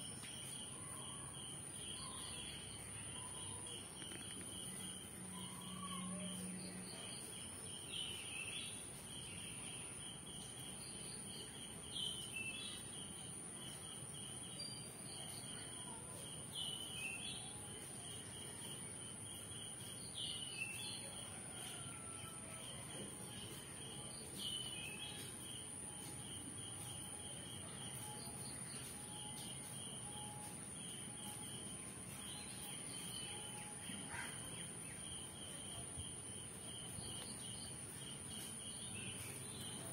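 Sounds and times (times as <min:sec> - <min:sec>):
insects chirping trill: 0:00.0 - 0:39.9.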